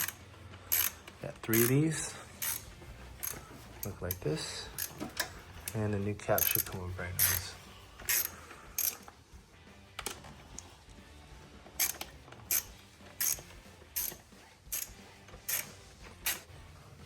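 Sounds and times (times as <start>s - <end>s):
ratchet wrench clicking: 0.0s - 9.1s, 11.8s - 16.5s.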